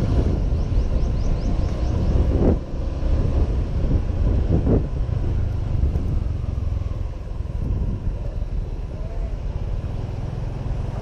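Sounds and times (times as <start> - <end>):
wind buffeting microphone: 0.0 - 10.4
surrounding traffic: 0.0 - 11.0.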